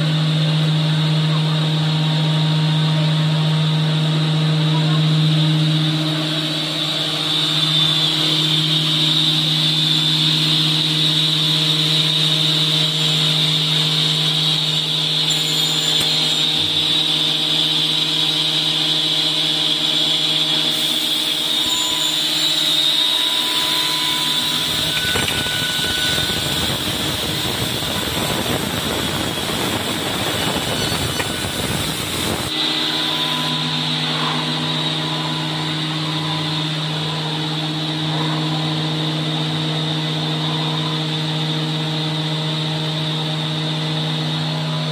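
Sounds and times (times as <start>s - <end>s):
machine motor hum with high whine: 0.0s - 44.9s.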